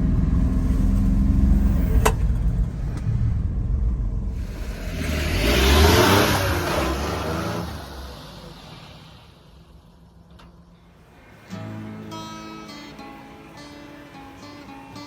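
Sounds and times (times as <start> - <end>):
small truck engine accelerating: 0.0 - 15.0.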